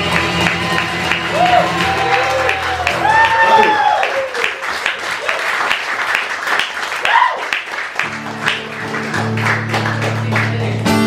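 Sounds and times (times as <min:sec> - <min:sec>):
audience clapping: 0:00.0 - 0:11.0.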